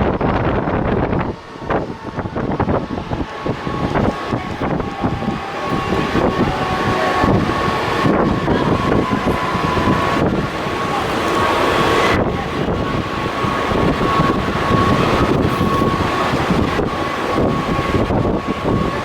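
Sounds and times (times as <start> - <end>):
electric train rumbling: 0.0 - 19.0
thin steady whine: 0.0 - 19.0
wind buffeting microphone: 0.0 - 19.0.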